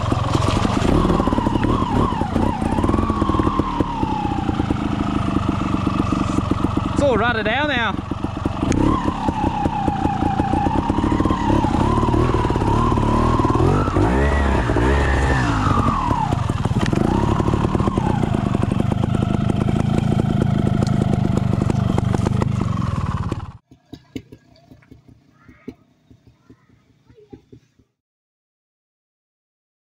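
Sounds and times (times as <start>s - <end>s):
motorcycle two-stroke engine revving: 0.0s - 25.2s.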